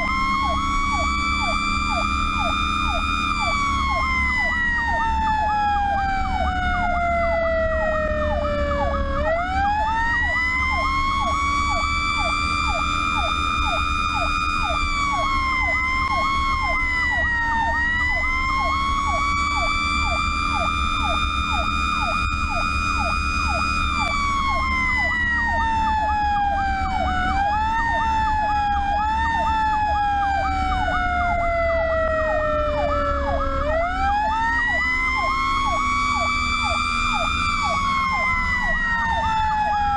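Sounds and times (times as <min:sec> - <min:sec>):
truck engine drone: 0:00.0 - 0:39.9
wailing siren: 0:00.0 - 0:39.9
yelping siren: 0:00.0 - 0:39.9.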